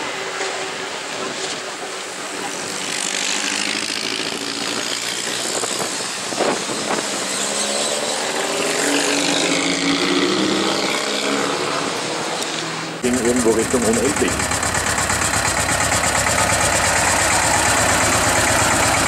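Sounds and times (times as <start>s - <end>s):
car engines passing: 0.0s - 19.0s
engine revving: 2.6s - 19.0s.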